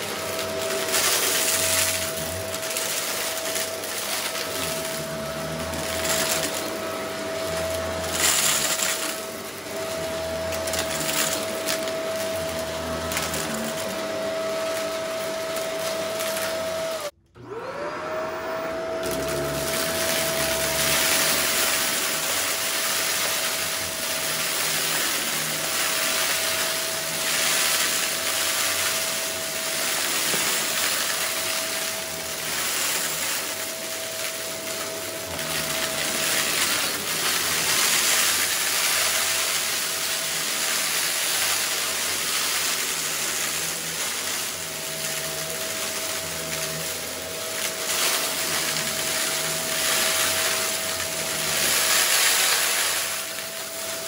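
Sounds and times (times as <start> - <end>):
small rocks rattling in vacuum: 0.0 - 17.1, 18.9 - 54.0
stick vacuum motor whine: 0.0 - 54.0.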